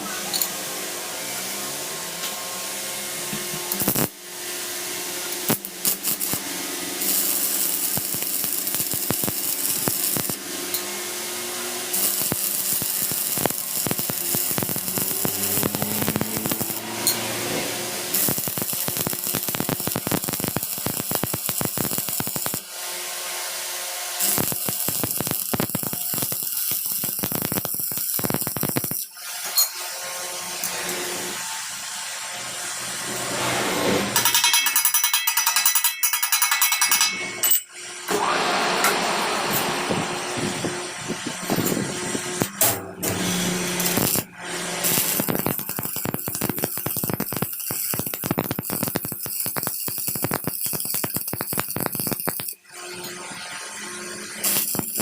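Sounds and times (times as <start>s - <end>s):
power tool motor whine: 1.4s - 34.1s, 37.9s - 55.0s.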